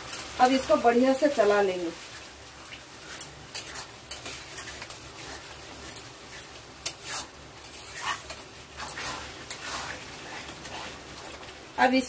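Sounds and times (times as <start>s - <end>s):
metal spatula scraping a pan: 1.4s - 11.4s.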